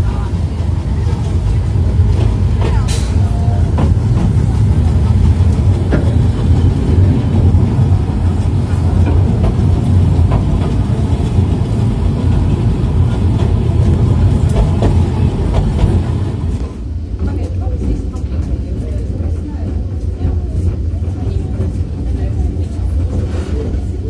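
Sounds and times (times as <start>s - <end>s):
train rumbling along track: 0.0s - 24.0s.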